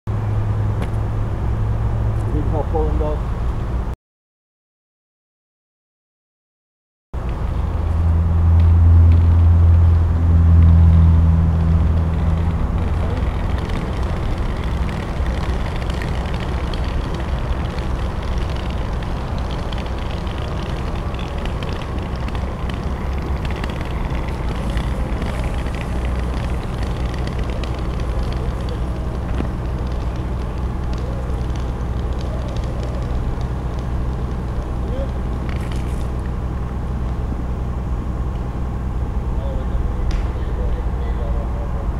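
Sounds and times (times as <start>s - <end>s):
diesel engines rumbling: 0.1s - 4.0s, 7.2s - 41.9s.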